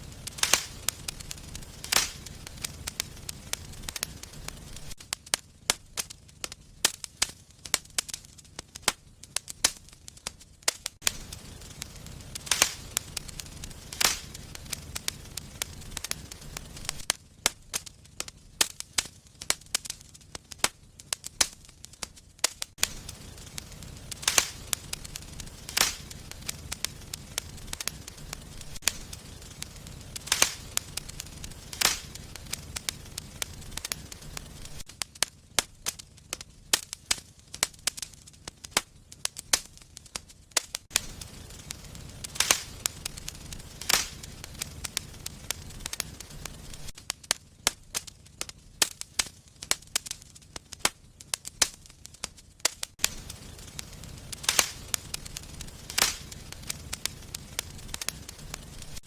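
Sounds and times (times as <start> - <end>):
low rumble of burning: 0.0 - 59.0
wood fire crackling: 0.0 - 59.0.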